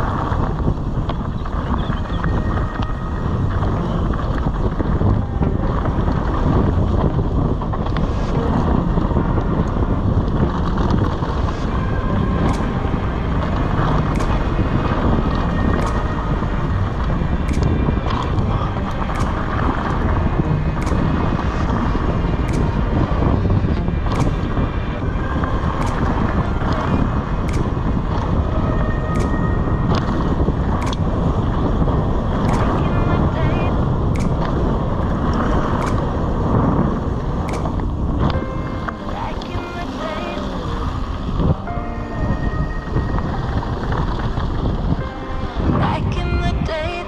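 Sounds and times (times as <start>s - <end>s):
tyre rumble: 0.0s - 39.4s
sharp clicks and rattles: 0.0s - 41.8s
wind buffeting microphone: 0.0s - 47.0s.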